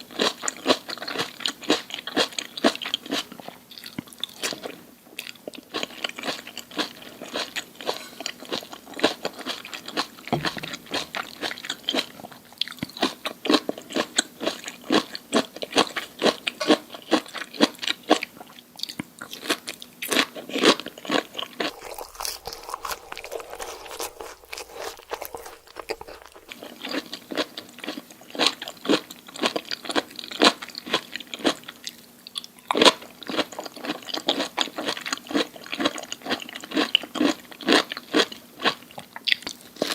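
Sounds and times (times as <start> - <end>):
crunching and chewing crisp food: 0.0 - 39.9.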